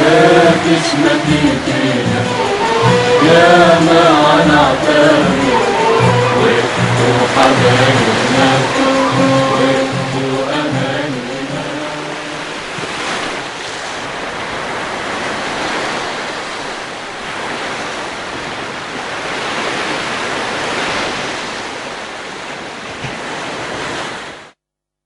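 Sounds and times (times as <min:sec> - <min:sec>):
sea waves washing on shore: 0:00.0 - 0:24.6.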